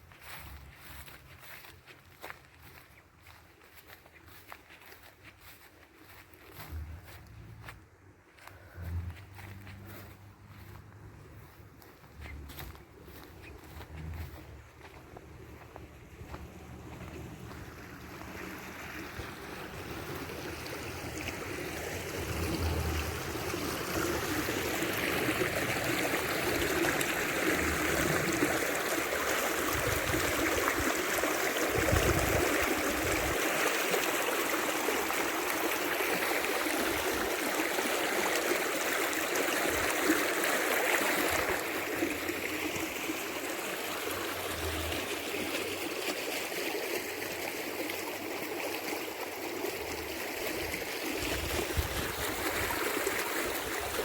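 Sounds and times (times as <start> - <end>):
river water rushing: 8.7 - 54.0.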